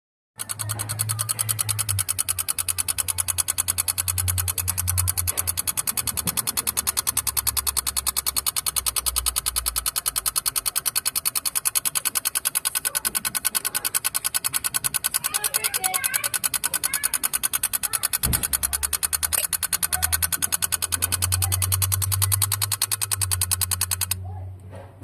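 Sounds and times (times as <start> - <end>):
rapid electrical clicking: 0.4 - 24.3.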